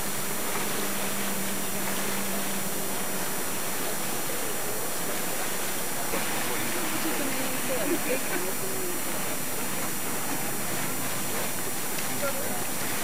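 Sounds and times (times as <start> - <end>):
low steady hum: 0.0 - 13.0
outdoor background hiss: 0.0 - 13.0.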